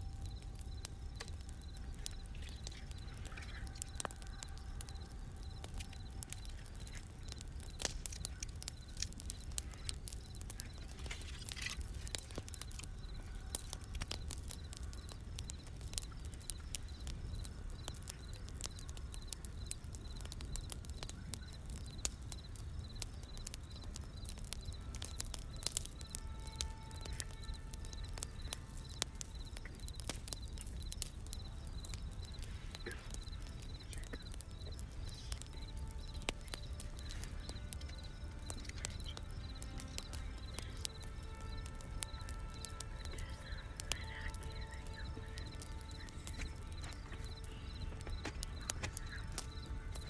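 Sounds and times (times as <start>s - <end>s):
fire pops and snaps: 0.0s - 50.0s
wood fire crackling: 0.0s - 50.0s.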